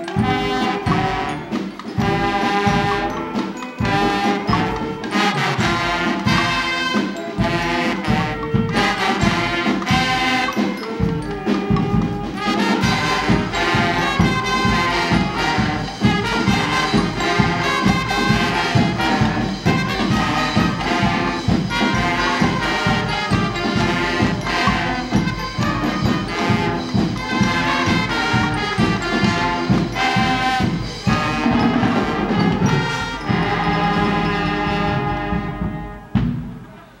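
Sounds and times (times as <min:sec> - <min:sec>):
steady drumbeat: 0:00.0 - 0:36.8
brass band playing loudly: 0:00.0 - 0:37.0.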